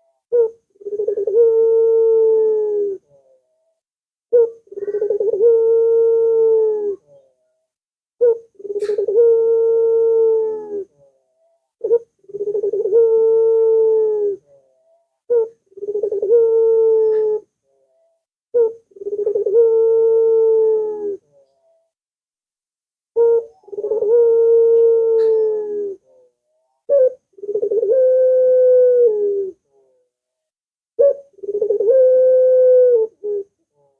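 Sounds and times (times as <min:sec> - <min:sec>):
dove cooing: 0:00.0 - 0:03.5, 0:04.3 - 0:07.5, 0:08.2 - 0:21.9, 0:23.2 - 0:30.1, 0:31.0 - 0:33.9.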